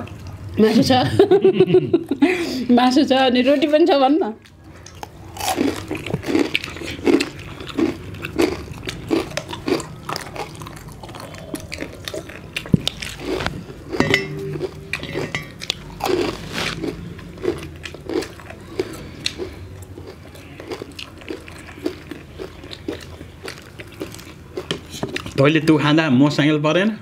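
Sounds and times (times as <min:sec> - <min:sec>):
people eating and chewing: 0:00.0 - 0:00.9, 0:03.3 - 0:25.9.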